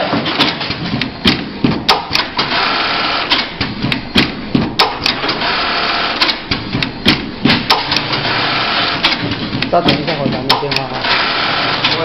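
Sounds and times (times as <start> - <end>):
sewing machine whirring: 0.0 - 12.0
sharp machine clacks: 0.1 - 12.0.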